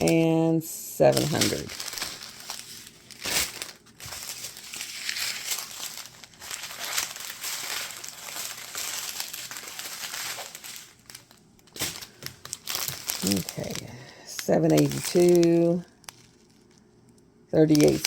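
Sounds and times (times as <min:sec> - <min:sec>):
plastic bags crinkling: 0:01.0 - 0:18.0.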